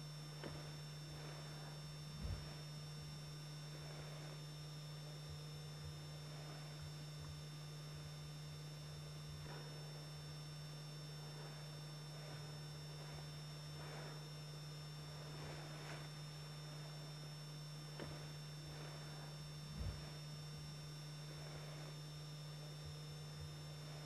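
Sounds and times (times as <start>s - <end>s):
faint soft sounds: 0.0s - 24.0s
low electrical hum: 0.0s - 24.0s.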